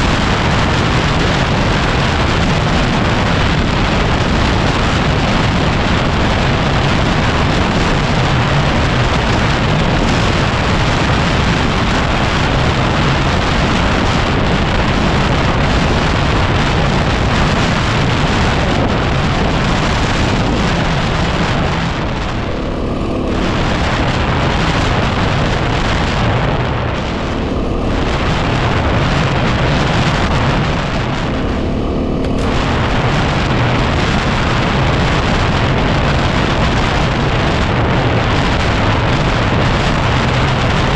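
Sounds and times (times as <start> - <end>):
motorcycle engine: 0.0 - 40.9
wind buffeting microphone: 0.0 - 40.9.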